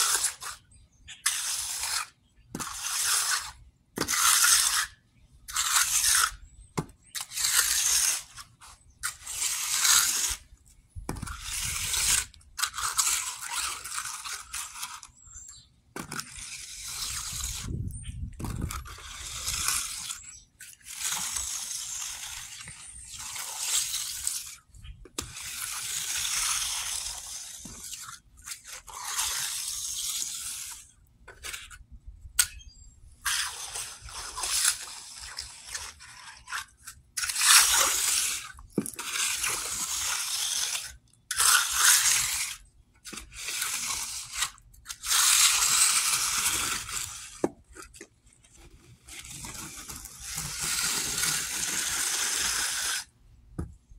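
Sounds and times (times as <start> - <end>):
trowel scraping wet concrete: 0.0 - 53.2.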